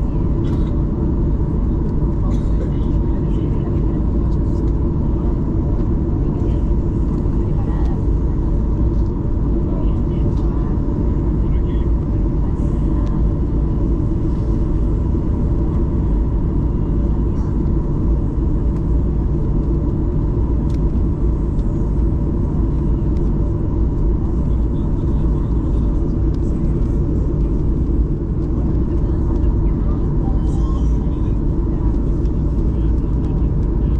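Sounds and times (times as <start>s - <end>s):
jet engine rumble in cabin: 0.0s - 33.9s.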